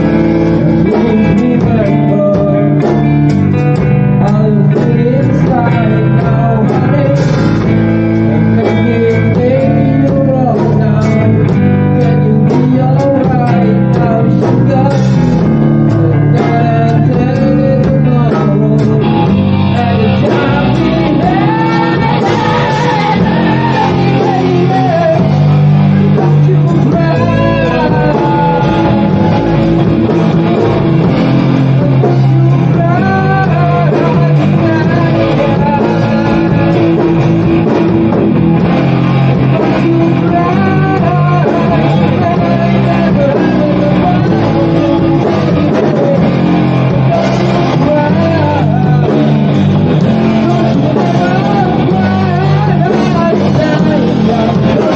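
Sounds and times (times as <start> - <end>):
rock song with guitar and vocals: 0.0 - 54.9.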